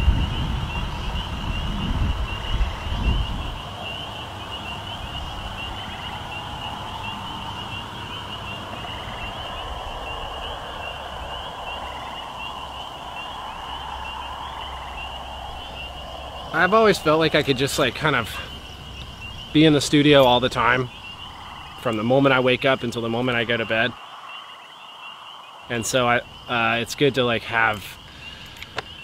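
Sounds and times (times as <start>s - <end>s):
insects chirring: 0.0s - 29.0s
wind rumbling on microphone: 0.0s - 29.0s.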